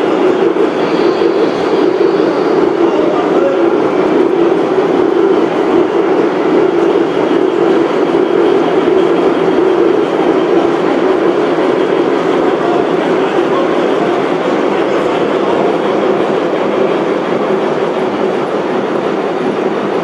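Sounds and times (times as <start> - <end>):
model train rolling on rails: 0.0 - 20.0.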